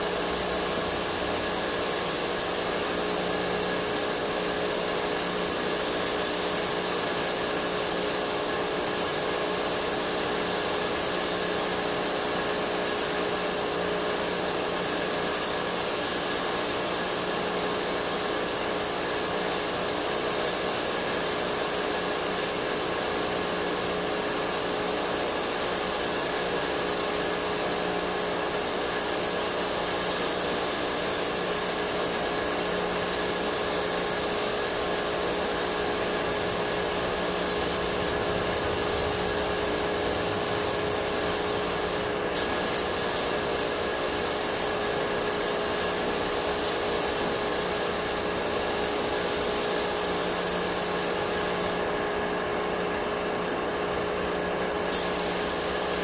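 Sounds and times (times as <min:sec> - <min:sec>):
compressed air spray hiss: 0:00.0 - 0:52.0, 0:54.8 - 0:56.0.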